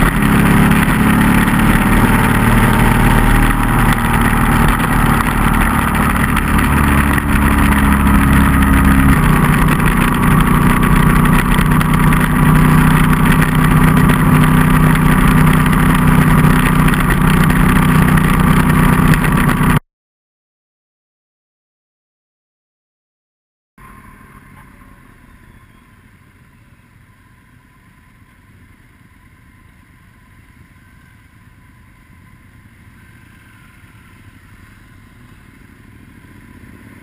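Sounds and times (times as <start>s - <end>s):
motorcycle engine cruising: 0.0s - 19.8s, 23.8s - 37.0s.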